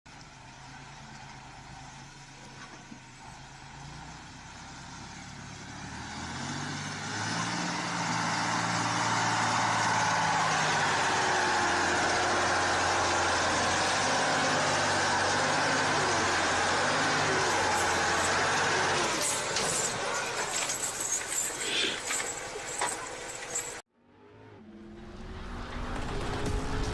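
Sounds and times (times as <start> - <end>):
heavy truck engine running: 0.1 - 23.8
road noise: 0.1 - 26.9.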